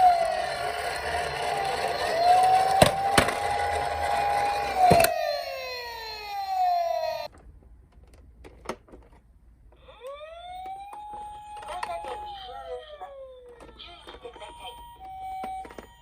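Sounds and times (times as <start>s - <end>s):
toy electronic siren wailing: 0.0s - 7.3s, 9.8s - 16.0s.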